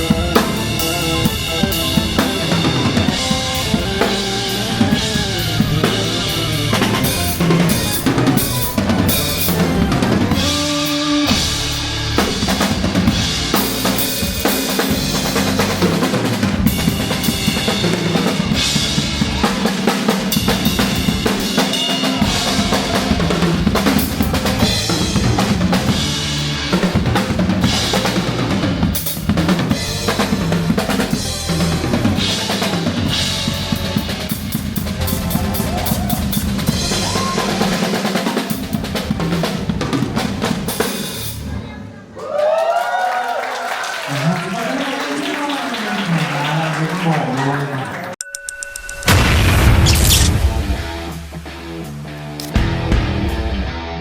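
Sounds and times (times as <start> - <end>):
drum kit playing: 0.0 - 41.6, 48.6 - 54.0.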